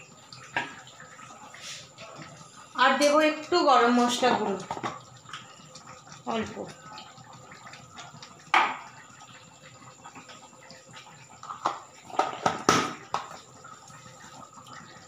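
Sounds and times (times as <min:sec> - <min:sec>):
curry bubbling softly: 0:00.0 - 0:15.0.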